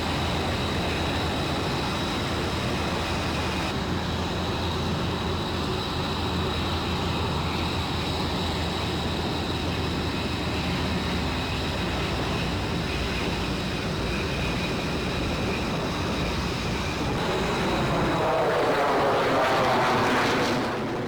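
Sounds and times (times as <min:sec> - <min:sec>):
jet engine rumble and whine: 0:00.0 - 0:21.0.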